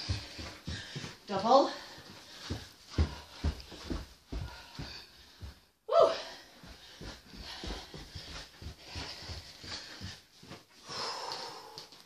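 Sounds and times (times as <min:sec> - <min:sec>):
footsteps on carpeted stairs: 0:00.0 - 0:12.0.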